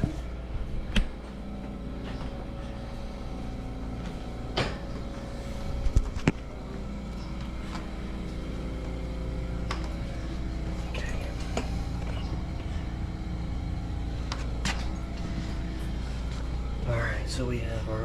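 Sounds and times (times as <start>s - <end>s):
air conditioning hum: 0.0s - 18.0s.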